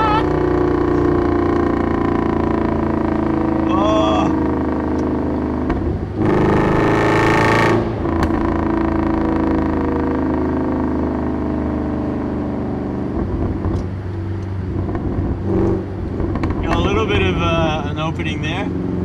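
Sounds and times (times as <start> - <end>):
engine steady drone: 0.0 - 19.0
loud exhaust engine accelerating: 0.0 - 19.0.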